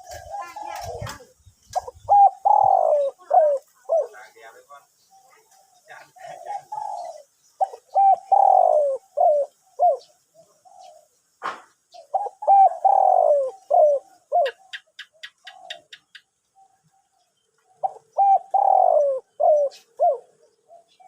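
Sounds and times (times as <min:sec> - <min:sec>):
dove cooing: 0:00.0 - 0:11.2, 0:11.9 - 0:21.0.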